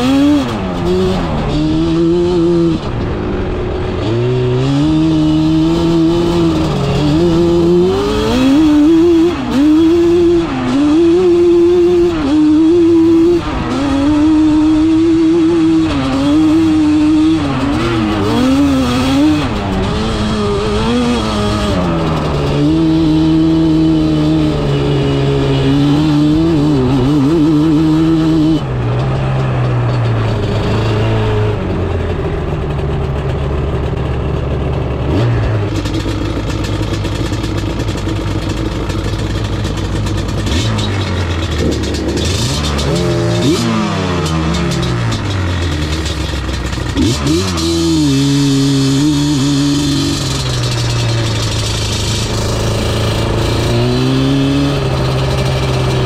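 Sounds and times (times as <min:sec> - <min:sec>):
two-stroke engine revving: 0:00.0 - 0:56.0.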